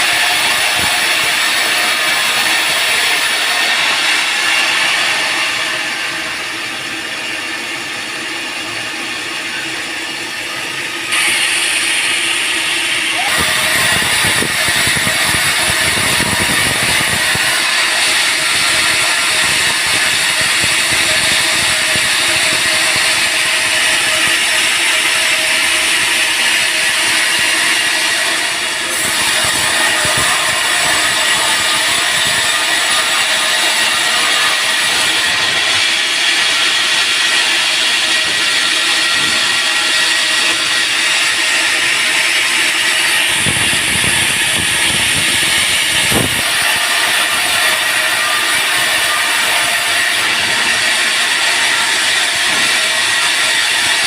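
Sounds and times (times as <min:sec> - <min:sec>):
band saw cutting log: 0:00.0 - 0:54.0.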